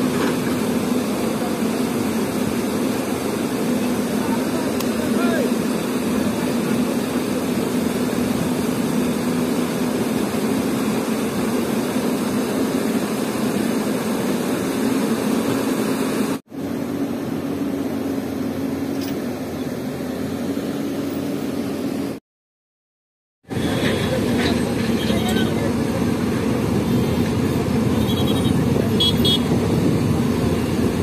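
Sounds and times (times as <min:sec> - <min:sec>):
excavator diesel engine running: 0:00.0 - 0:22.2, 0:23.5 - 0:31.0.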